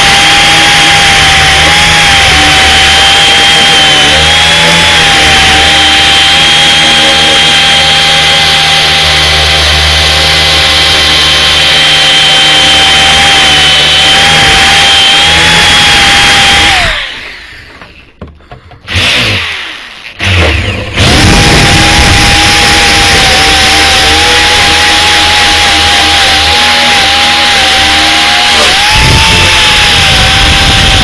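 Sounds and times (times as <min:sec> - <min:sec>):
grinder whining on sheet metal: 0:00.0 - 0:31.0.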